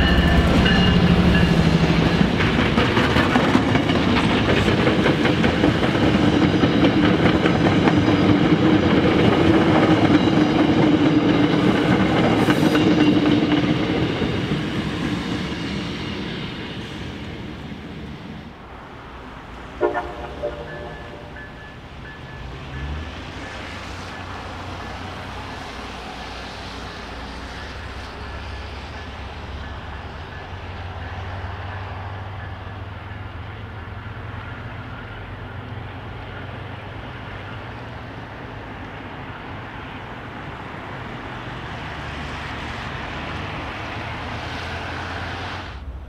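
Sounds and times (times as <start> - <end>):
train passing with rail noise: 0.0 - 46.0.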